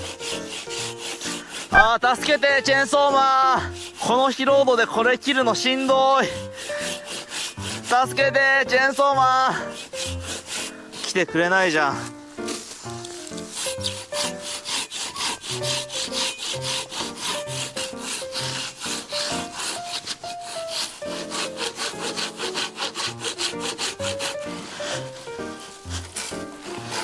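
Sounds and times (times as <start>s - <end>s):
background music: 0.0s - 27.0s
hand saw cutting log: 0.0s - 27.0s.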